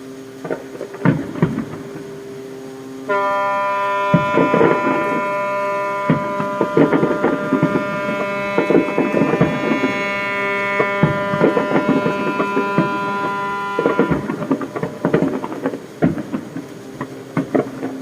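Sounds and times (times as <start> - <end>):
fireworks bangs and crackles: 0.4 - 18.0
ships' horns blasting: 0.4 - 18.0.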